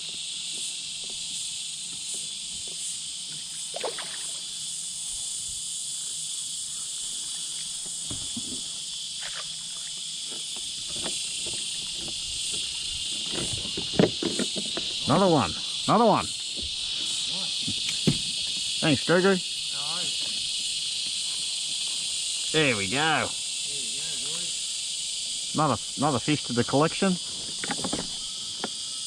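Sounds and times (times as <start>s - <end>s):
cicadas chorusing: 0.0s - 29.0s.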